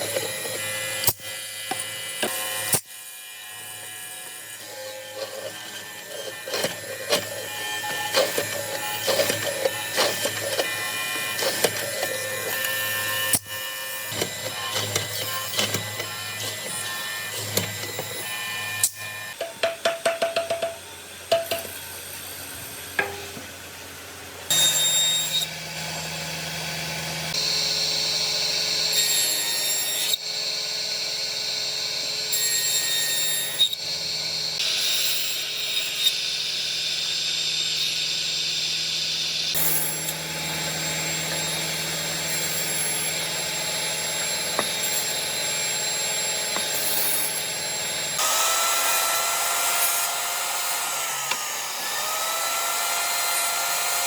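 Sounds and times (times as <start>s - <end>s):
power tool cutting wood: 0.0s - 19.5s, 20.7s - 54.0s.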